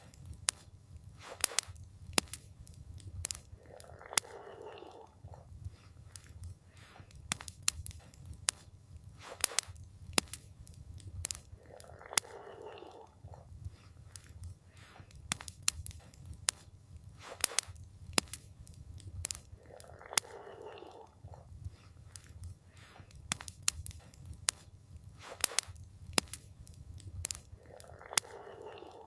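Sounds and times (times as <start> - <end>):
campfire crackling: 0.0 - 29.0
low steady fire rumble: 0.0 - 29.0.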